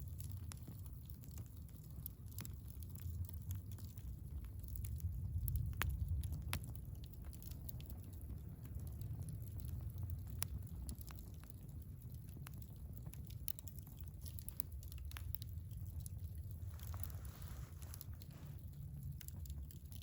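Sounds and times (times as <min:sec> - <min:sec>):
fire low rumble: 0:00.0 - 0:20.0
firewood crackling and popping: 0:00.0 - 0:20.0.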